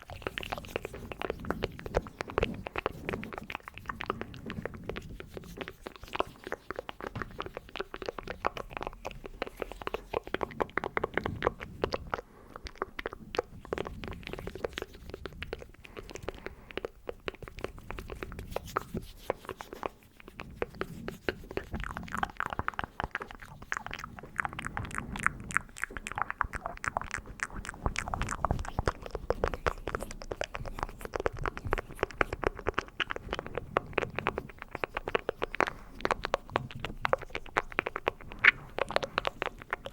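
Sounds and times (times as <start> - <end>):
wet mouth clicks and crackles: 0.0 - 39.9.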